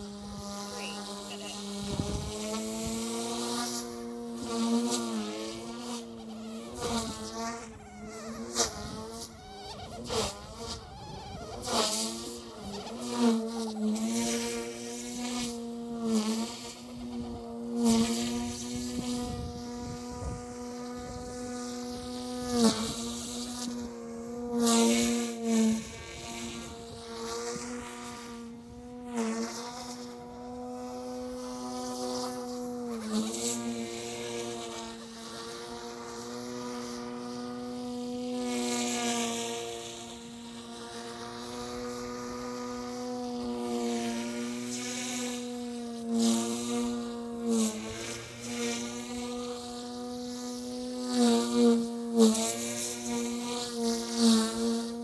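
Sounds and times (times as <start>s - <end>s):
rc helicopter buzzing whine: 0.0s - 55.0s.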